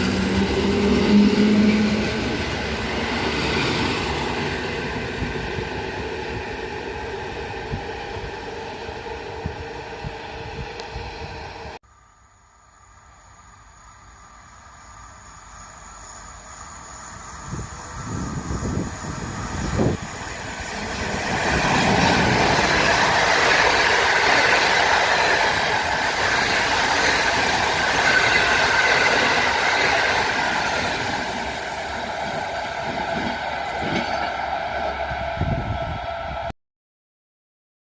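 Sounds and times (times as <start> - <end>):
train wheels rushing on rails: 0.0 - 11.8, 14.5 - 36.5.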